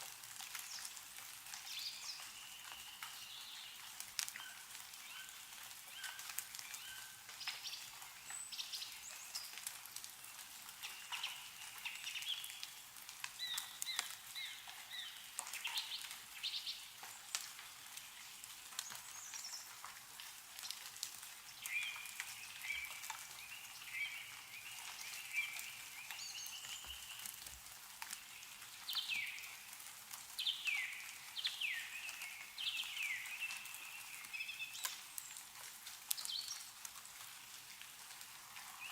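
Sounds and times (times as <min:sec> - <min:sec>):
meltwater dripping: 0:00.0 - 0:38.9.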